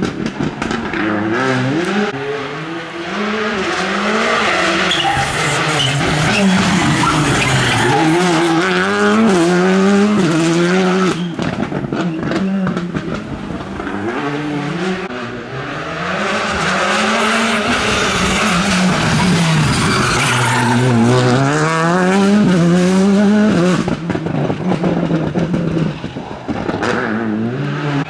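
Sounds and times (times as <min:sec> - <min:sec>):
exhaust crackles and pops: 0:00.0 - 0:28.0
rally car engine accelerating: 0:00.0 - 0:28.0.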